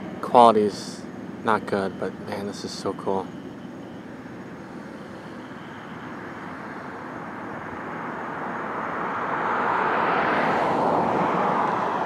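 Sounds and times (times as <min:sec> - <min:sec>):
passing vehicle: 0:00.0 - 0:12.0.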